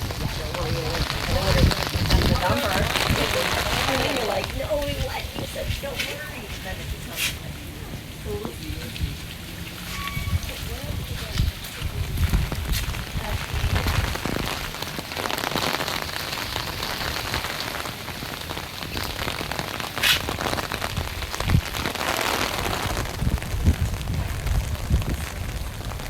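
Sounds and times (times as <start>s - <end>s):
wind buffeting microphone: 0.0s - 15.4s, 16.7s - 26.0s
heavy rain: 0.0s - 26.0s
strong gusting wind: 0.0s - 26.0s.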